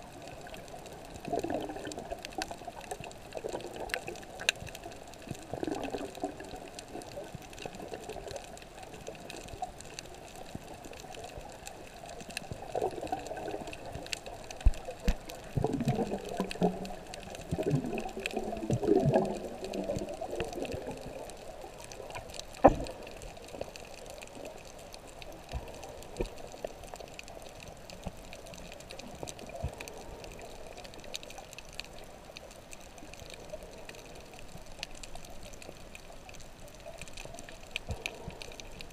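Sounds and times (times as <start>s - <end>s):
bubbling gurgles: 0.0s - 38.9s
muffled underwater rush: 0.0s - 38.9s
faint clicks: 0.1s - 38.9s.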